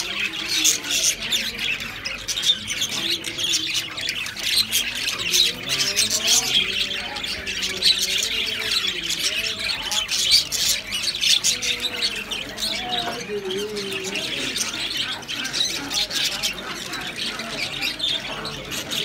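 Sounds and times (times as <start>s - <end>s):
caged birds chattering and squawking: 0.0s - 19.0s.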